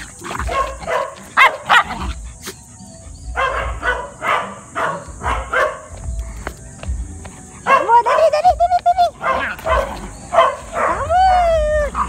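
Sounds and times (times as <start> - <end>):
puppy barking and yipping: 0.0 - 6.1, 7.5 - 12.0.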